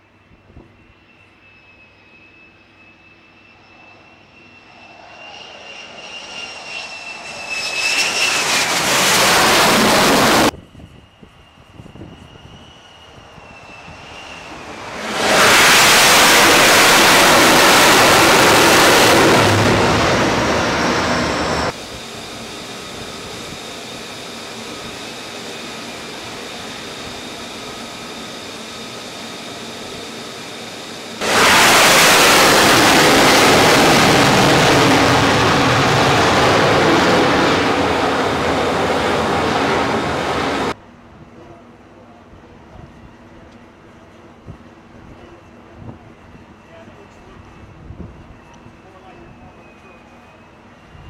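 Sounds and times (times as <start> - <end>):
loud jet engine: 0.0 - 40.8, 44.9 - 51.0
distant jet with faint whine: 0.0 - 51.0.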